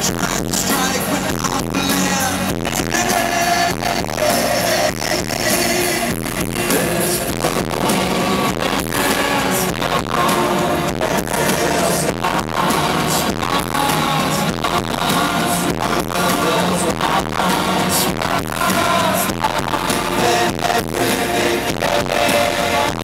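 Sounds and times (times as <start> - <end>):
live pop band playing: 0.0 - 23.0
person singing: 0.0 - 23.0.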